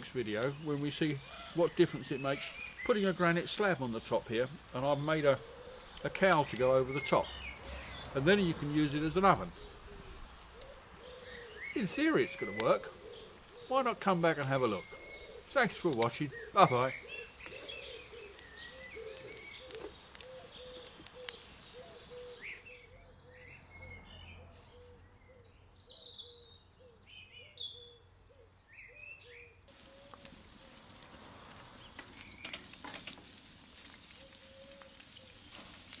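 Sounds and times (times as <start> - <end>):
food sizzling on a grill: 0.0 - 22.8, 29.7 - 36.0
fire crackling: 0.0 - 22.9, 29.7 - 36.0
birds singing: 0.0 - 36.0.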